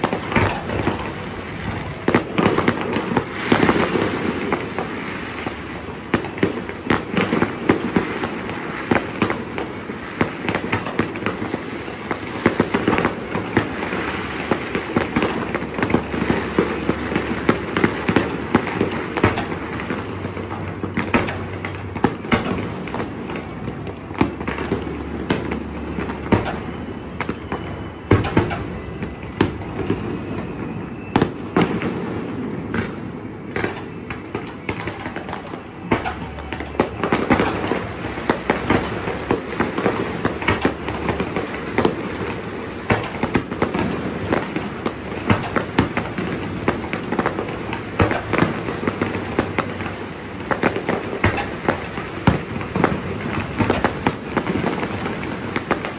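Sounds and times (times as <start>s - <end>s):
aerial fireworks bursting: 0.0s - 55.9s
fireworks crackling: 0.0s - 55.9s.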